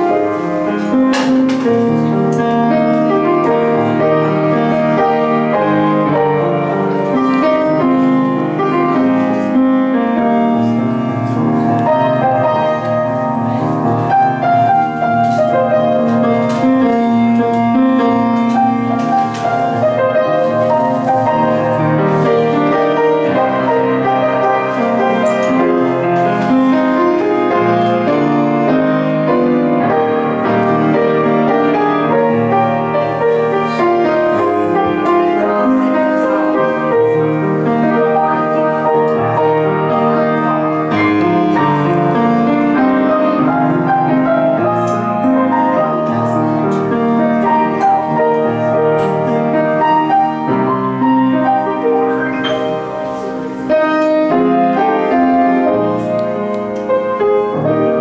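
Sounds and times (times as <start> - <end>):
solo piano playing: 0.0 - 58.0.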